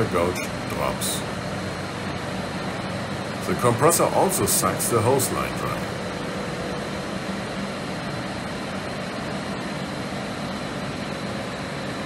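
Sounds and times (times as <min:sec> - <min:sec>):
air conditioning compressor whirring: 0:00.0 - 0:12.0.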